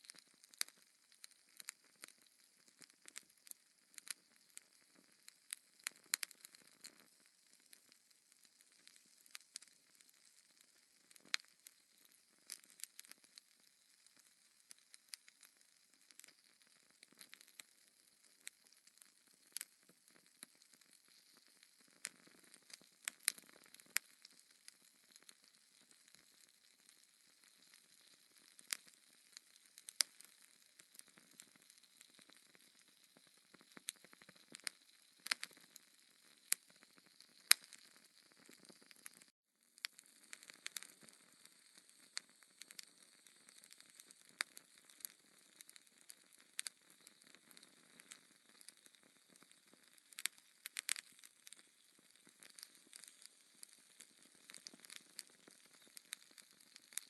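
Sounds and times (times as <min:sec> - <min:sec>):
faint steady hiss: 0:00.0 - 0:57.0
logs crackling in fireplace: 0:00.0 - 0:57.0.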